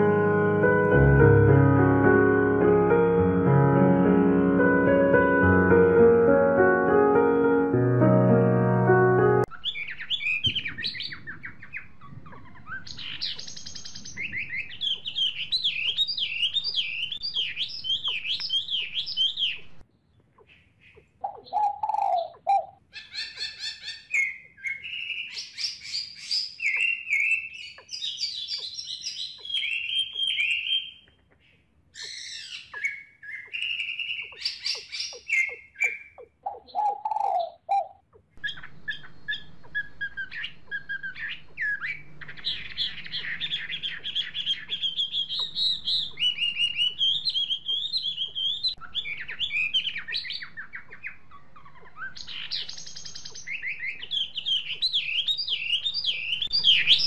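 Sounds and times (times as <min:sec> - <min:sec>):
birds chirping and calling: 0:09.5 - 0:57.0.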